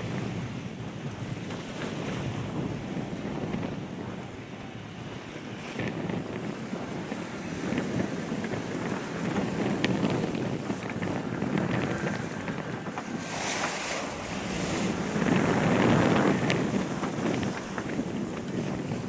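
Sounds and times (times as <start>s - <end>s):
sea water rushing past boat: 0.0s - 19.0s
wind buffeting microphone: 0.0s - 19.0s.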